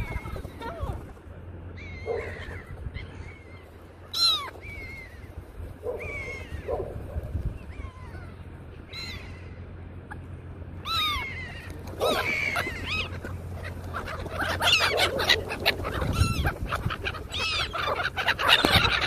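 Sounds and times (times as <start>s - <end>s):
gulls calling: 0.0s - 19.0s
low steady rumble: 0.0s - 19.0s.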